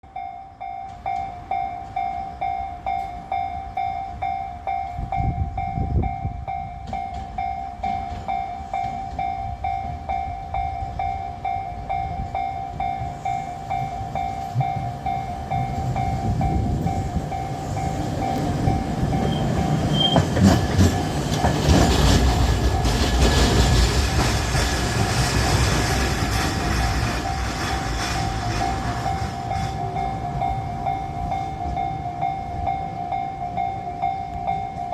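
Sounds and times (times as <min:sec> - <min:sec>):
level crossing alarm ringing: 0:00.0 - 0:24.2, 0:26.0 - 0:34.9
tram rumble: 0:00.0 - 0:34.9.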